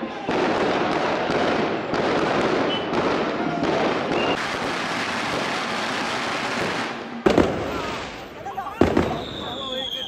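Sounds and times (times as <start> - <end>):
firecrackers crackling: 0.0 - 10.0.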